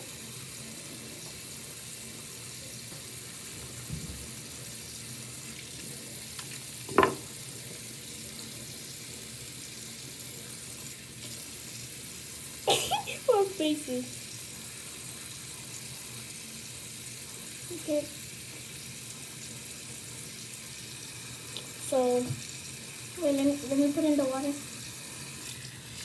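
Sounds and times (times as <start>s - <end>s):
water running from a tap: 0.0s - 26.0s.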